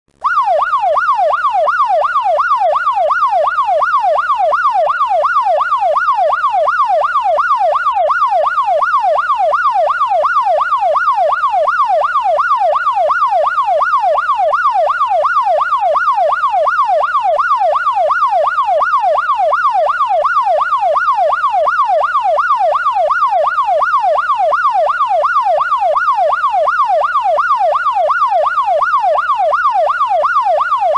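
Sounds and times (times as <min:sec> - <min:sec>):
police siren yelping: 0:00.2 - 0:30.9.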